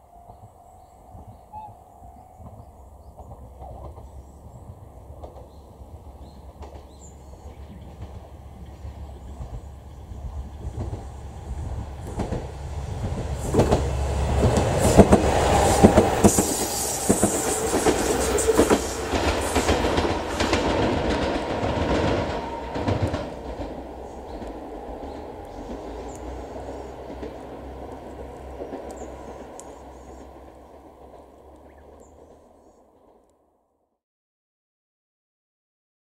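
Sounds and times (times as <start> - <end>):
diesel railcar engines running: 0.0 - 32.9
train wheels clicking over rail joints: 2.4 - 32.5.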